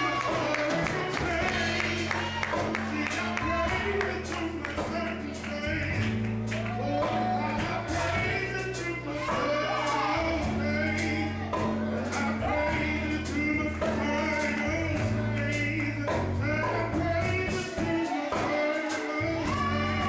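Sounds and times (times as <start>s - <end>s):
deep bass notes: 0.0s - 18.1s, 19.2s - 20.0s
steady beat: 0.0s - 20.0s
voices singing gospel: 0.0s - 20.0s.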